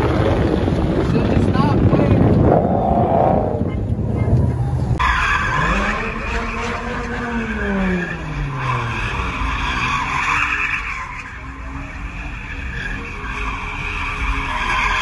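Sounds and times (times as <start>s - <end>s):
car engine revving: 0.0s - 15.0s
car tyres squealing: 2.2s - 15.0s.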